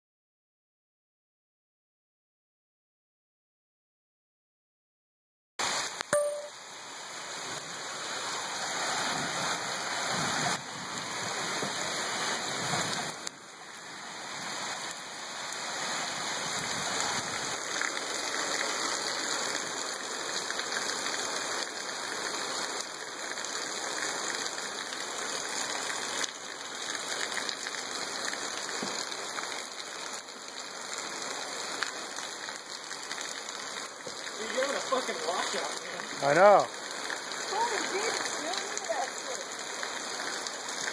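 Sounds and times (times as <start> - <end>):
heavy rain pouring: 5.6 - 40.9.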